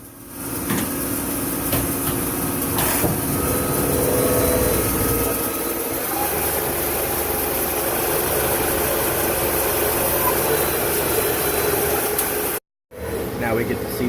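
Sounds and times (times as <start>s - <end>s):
lathe machine humming: 2.3s - 14.0s.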